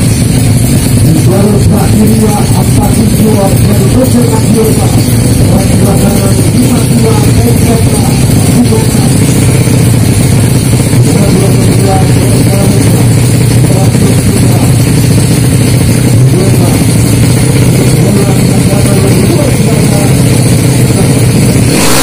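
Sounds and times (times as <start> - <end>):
motorcycle engine running loud: 0.0 - 22.0.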